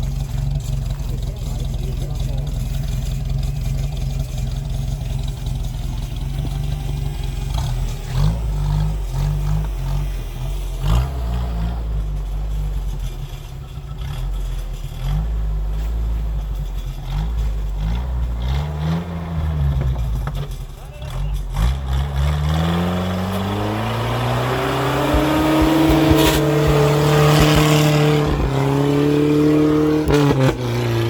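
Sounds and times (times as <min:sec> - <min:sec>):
engine revving: 0:00.0 - 0:31.0.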